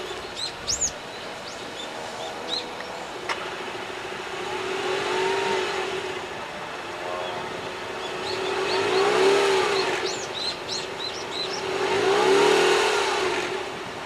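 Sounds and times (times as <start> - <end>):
engine rev: 0.0 - 14.0.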